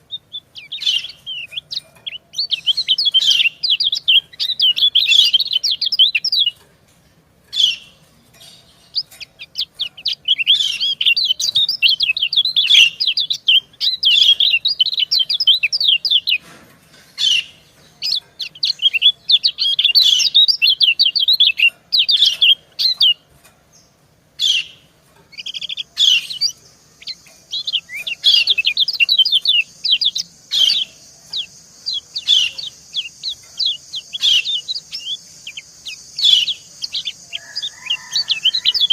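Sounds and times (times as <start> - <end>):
birds chirping: 0.0 - 38.9
steady high hiss: 0.0 - 38.9.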